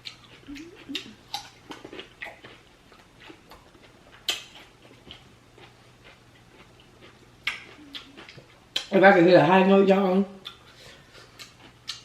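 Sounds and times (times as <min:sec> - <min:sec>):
mouth chewing seafood: 0:00.0 - 0:08.9, 0:10.4 - 0:12.0.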